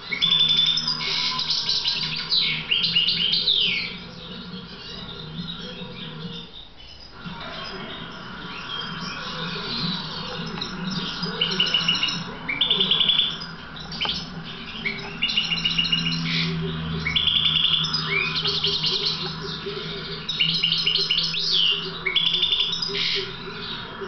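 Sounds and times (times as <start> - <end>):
goldfinch singing: 0.0 - 24.0.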